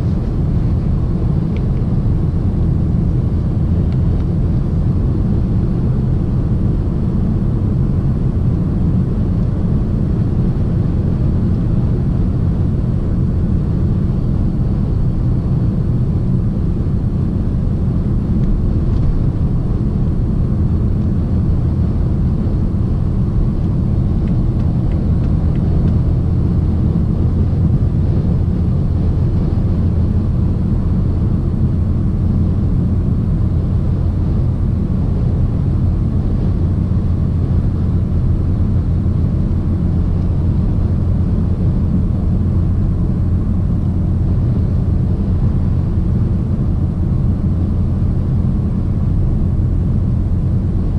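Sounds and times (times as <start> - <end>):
car cabin drone: 0.0 - 50.9
diesel engine hum: 0.0 - 50.9
road and tyre noise: 0.0 - 50.9.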